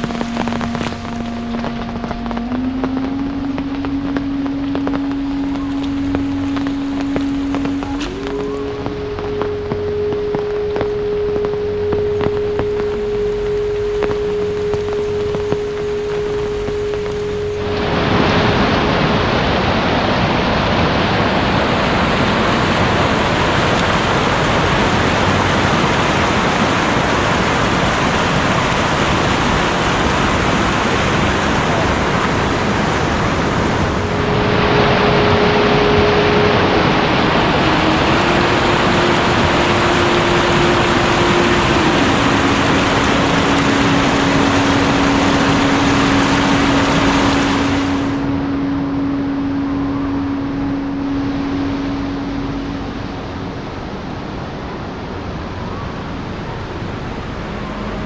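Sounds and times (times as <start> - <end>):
faint steady hum: 0.0 - 58.0
heavy rain falling: 0.0 - 58.0.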